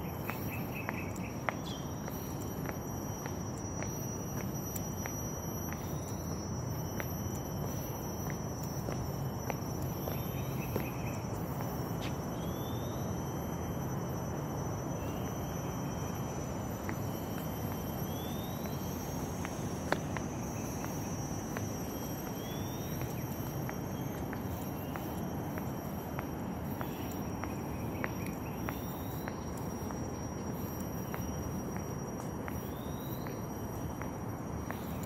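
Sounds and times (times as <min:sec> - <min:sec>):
high-pitched drone: 0:00.0 - 0:35.0.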